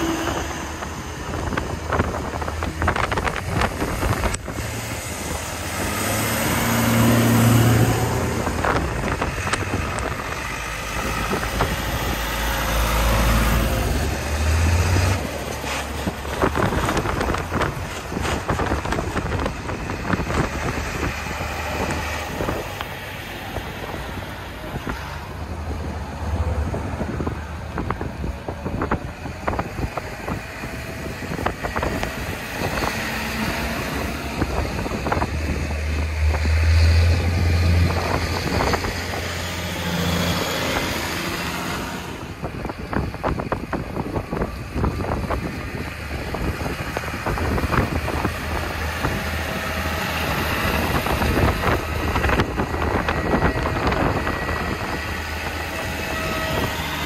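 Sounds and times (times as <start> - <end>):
tractor engines rumbling: 0.0 - 57.0
wind buffeting microphone: 0.0 - 57.0.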